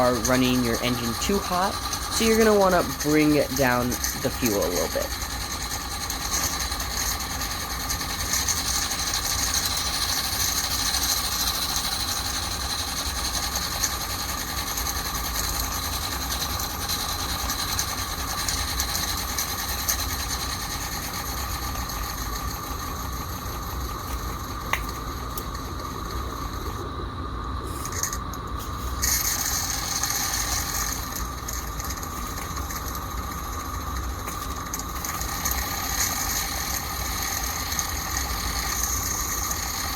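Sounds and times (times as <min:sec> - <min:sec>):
model steam locomotive chatter: 0:00.0 - 0:24.4, 0:29.0 - 0:39.9.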